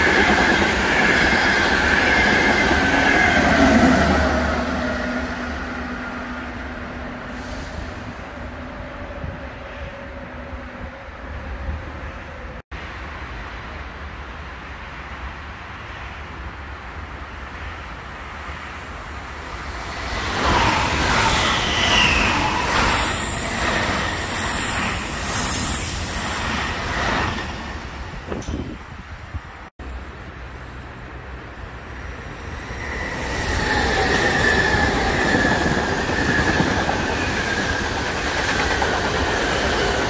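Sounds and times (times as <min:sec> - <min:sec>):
high-pitched train whines: 0:00.0 - 0:12.6, 0:17.0 - 0:29.1, 0:29.8 - 0:40.0
train rushing past on rails: 0:00.0 - 0:40.0.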